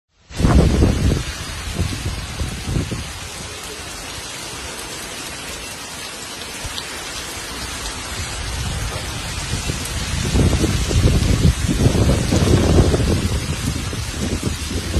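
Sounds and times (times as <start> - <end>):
heavy rain pouring: 0.2 - 14.9.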